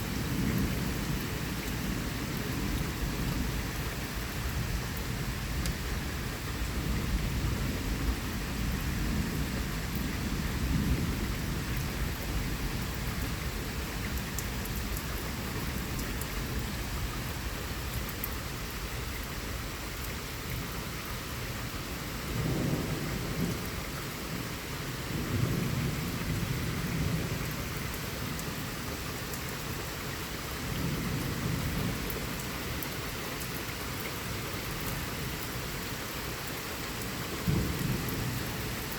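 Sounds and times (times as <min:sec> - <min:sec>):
rain pouring: 0:00.0 - 0:38.9.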